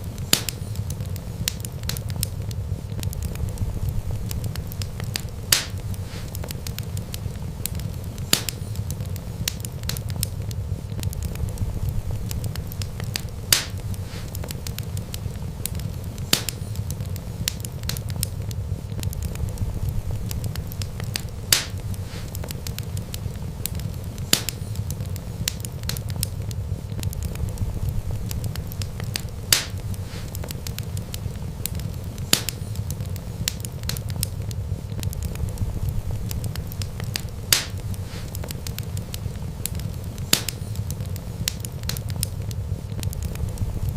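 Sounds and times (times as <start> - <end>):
loud sharp fire pops: 0.0 - 43.9
wood fire crackling: 0.0 - 43.9.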